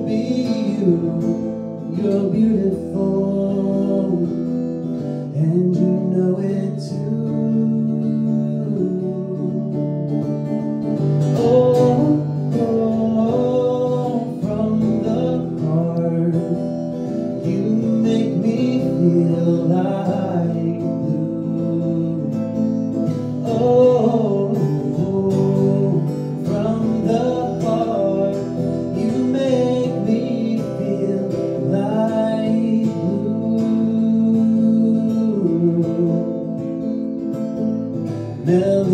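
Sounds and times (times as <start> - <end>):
man singing: 0.0 - 37.2, 38.2 - 38.9
strummed acoustic guitar: 0.0 - 38.9.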